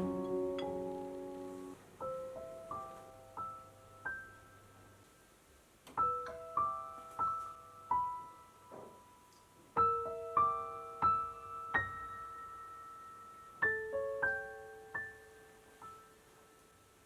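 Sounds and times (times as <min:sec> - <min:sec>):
soft piano music: 0:00.0 - 0:05.3, 0:05.9 - 0:17.0.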